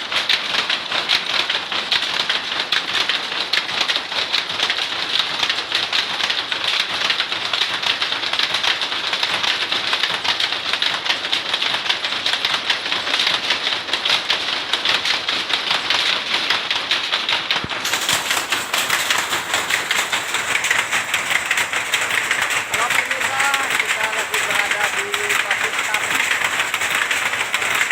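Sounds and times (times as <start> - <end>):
cloth machine clattering: 0.0 - 27.9.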